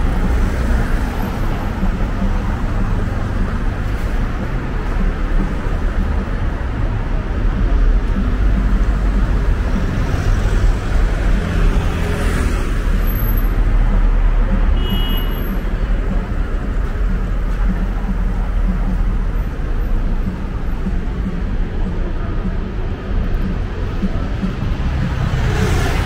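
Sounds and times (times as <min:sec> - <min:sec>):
cars passing: 0:00.0 - 0:26.0
constant low traffic rumble: 0:00.0 - 0:26.0.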